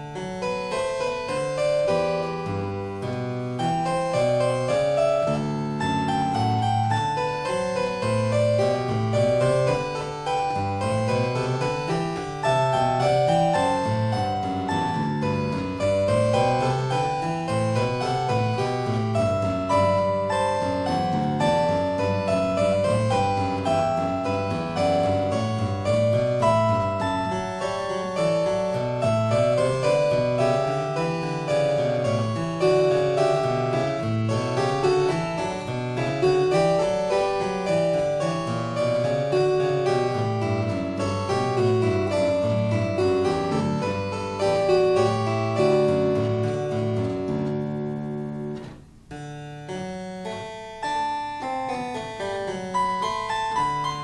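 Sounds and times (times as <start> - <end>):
keyboard music: 0.0 - 54.0.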